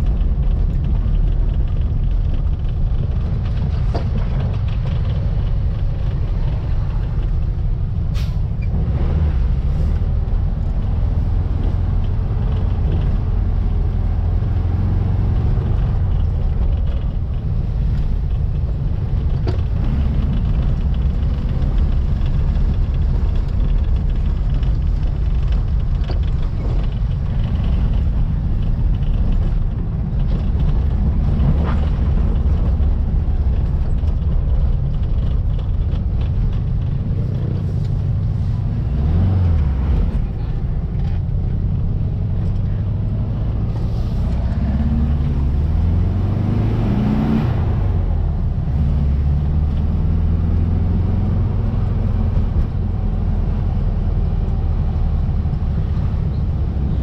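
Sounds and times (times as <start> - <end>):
car engine droning while driving: 0.0 - 57.0
road noise: 0.0 - 57.0.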